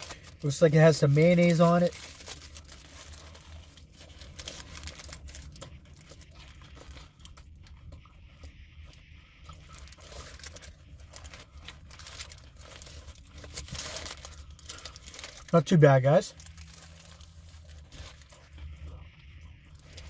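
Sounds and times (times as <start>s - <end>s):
paper wrapper crinkling: 0.0s - 7.5s, 9.6s - 18.6s
steady low hum: 0.0s - 20.0s.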